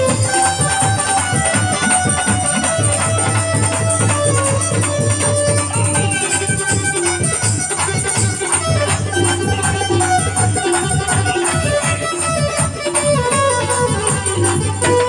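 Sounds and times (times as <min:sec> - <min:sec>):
fast drum rhythm: 0:00.0 - 0:15.0
instrumental melody line: 0:00.0 - 0:15.0
jingling tambourine: 0:00.0 - 0:15.0.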